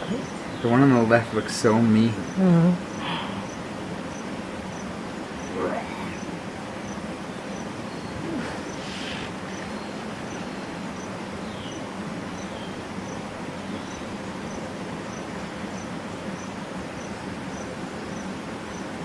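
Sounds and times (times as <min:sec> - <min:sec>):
insect chirping: 0:02.1 - 0:18.9.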